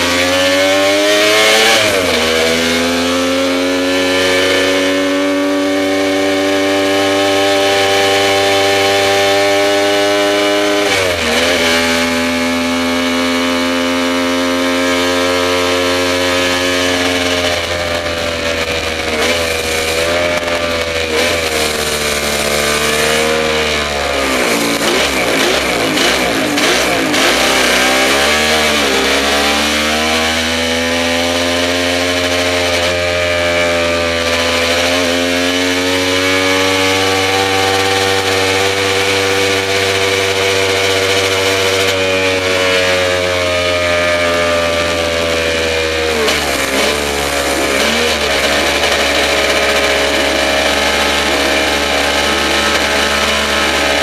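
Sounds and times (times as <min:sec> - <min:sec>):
racing motorcycle engine: 0:00.0 - 0:54.0.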